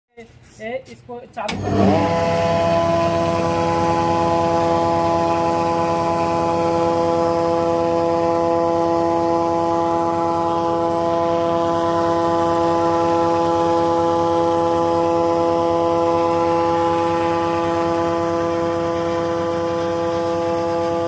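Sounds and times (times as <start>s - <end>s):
chilli grinder whining: 1.5s - 21.0s.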